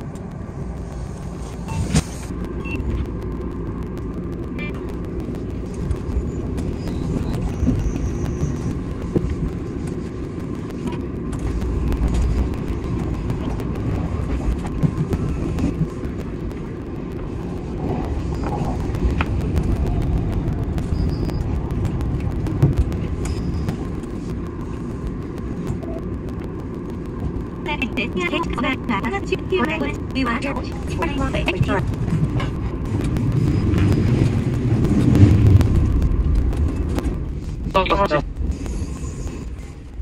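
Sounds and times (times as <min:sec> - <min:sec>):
electric train rumble: 0:00.0 - 0:40.0.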